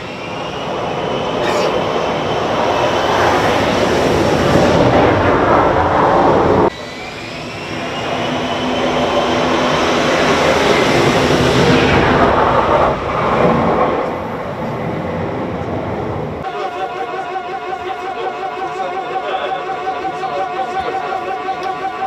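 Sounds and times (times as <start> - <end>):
jet engine roaring and whining: 0.0 - 22.0.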